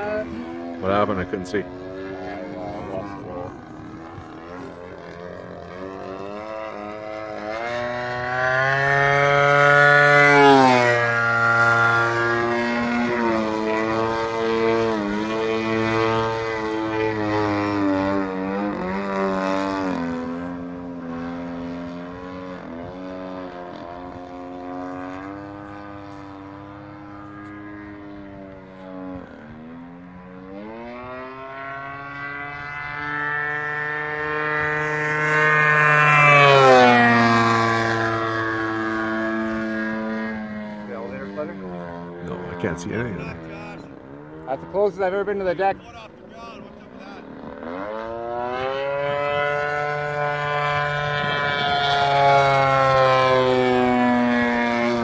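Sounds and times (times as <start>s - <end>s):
model plane engine revving: 0.0s - 55.0s.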